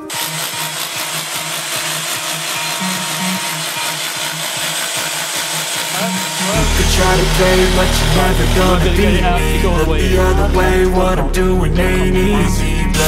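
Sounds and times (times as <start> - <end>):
power tool grinding stone: 0.0 - 12.5.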